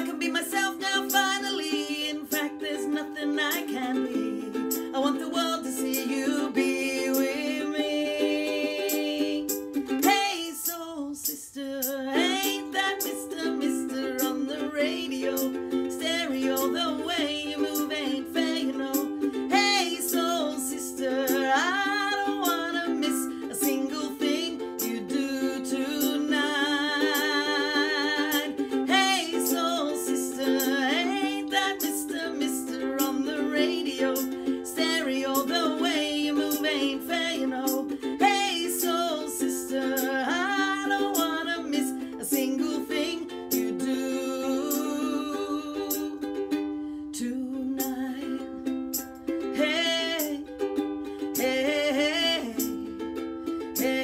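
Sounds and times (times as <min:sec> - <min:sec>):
ukulele strumming: 0:00.0 - 0:54.0
woman singing: 0:00.0 - 0:54.0.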